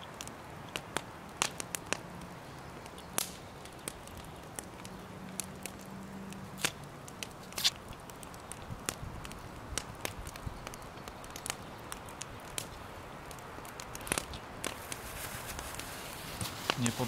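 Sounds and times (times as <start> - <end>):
sharp crackles and clicks: 0.0 - 17.0.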